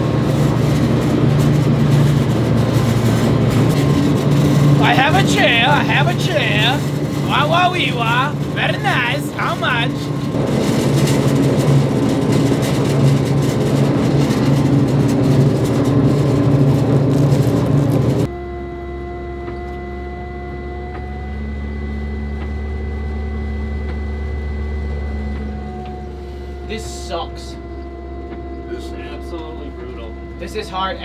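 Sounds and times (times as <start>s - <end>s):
faint whine: 0.0s - 31.0s
tracked vehicle engine rumble: 0.0s - 31.0s.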